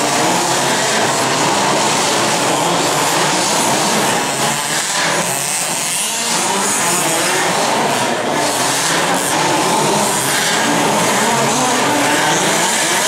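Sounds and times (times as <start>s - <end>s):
rc car engines buzzing: 0.0s - 13.0s.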